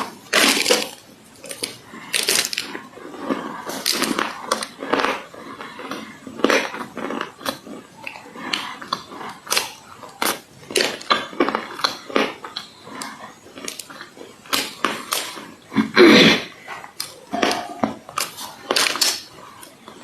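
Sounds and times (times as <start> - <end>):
crunching while chewing: 0.0 - 20.0.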